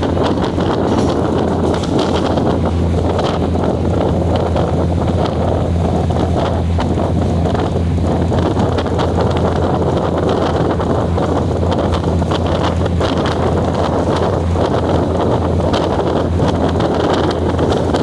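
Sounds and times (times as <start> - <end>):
train running noise: 0.0 - 18.0
wind buffeting microphone: 0.0 - 18.0.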